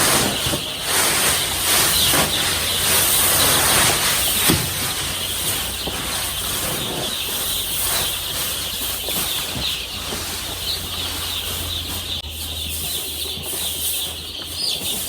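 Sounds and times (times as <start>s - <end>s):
chicks peeping: 0.0s - 15.0s
rustling and flapping: 0.0s - 15.0s.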